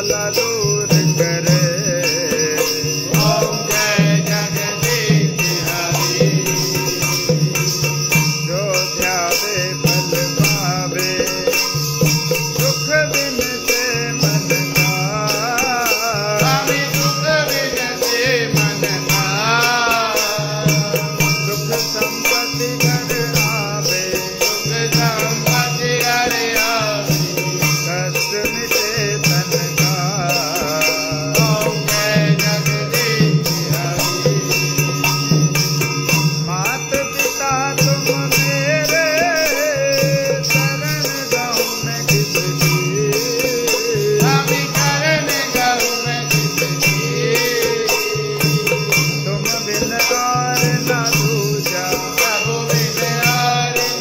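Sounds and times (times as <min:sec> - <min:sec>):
bells jingling: 0:00.0 - 0:54.0
wavering melody: 0:00.0 - 0:54.0.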